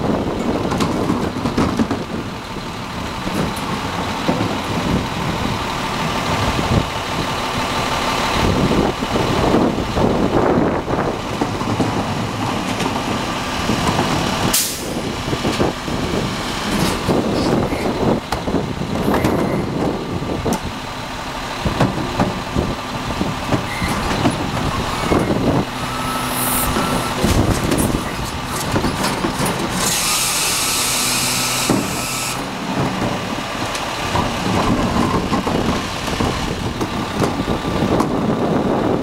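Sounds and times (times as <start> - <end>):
wind buffeting microphone: 0.0 - 26.0, 26.6 - 29.8, 32.6 - 39.0
diesel engine running: 0.0 - 39.0.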